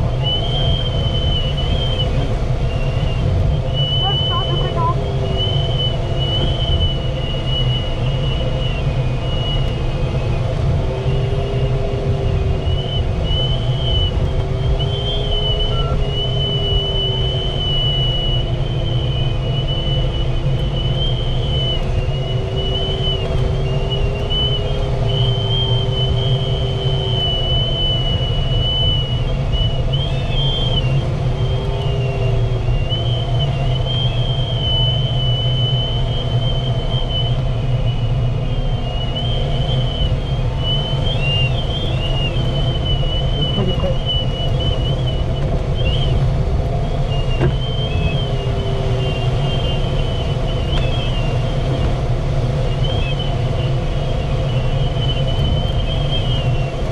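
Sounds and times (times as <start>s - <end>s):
low wavering tone: 0.0s - 46.1s
airflow rumble over glider: 0.0s - 56.9s
thin high whistle: 0.1s - 46.2s, 46.9s - 51.7s.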